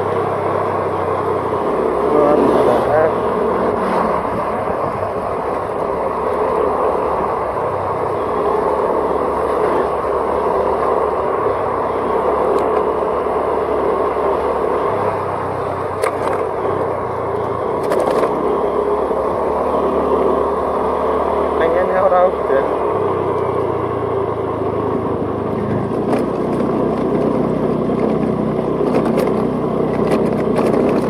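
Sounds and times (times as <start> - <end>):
low engine hum: 0.0 - 31.0
road and wind noise: 0.0 - 31.0.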